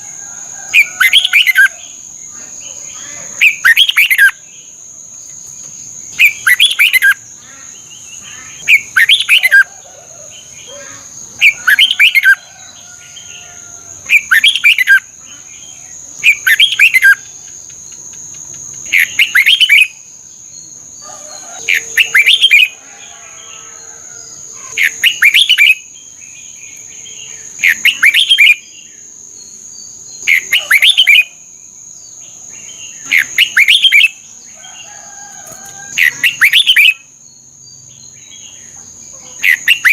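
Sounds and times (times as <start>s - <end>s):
bird singing warbled phrases: 0.8s - 4.8s, 5.4s - 12.5s, 13.2s - 23.2s, 24.6s - 39.9s.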